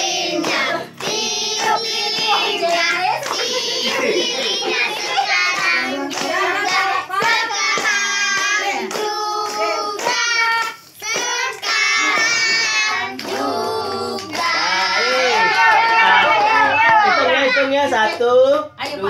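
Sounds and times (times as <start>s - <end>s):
group singing a celebration song: 0.0s - 19.0s
people clapping along: 0.0s - 19.0s.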